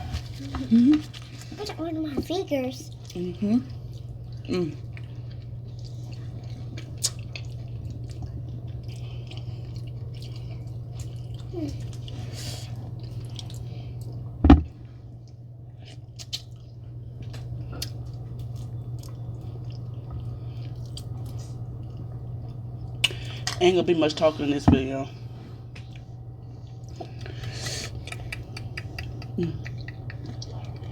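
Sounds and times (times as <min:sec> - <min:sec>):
steady low hum: 0:00.0 - 0:30.9
wet squishing and chewing: 0:02.8 - 0:23.6, 0:25.7 - 0:30.9.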